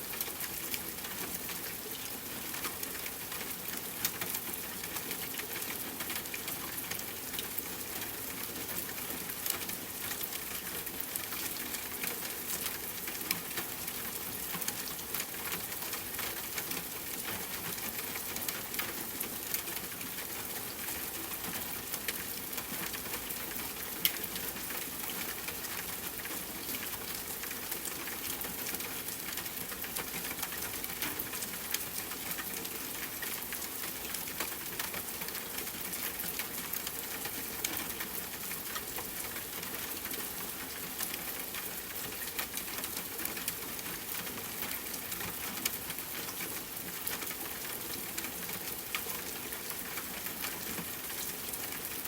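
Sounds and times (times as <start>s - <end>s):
rain patter: 0.0s - 52.0s.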